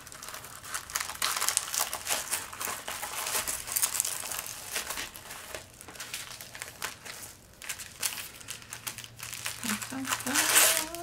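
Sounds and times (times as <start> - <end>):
paper and canvas crinkling: 0.0 - 11.0.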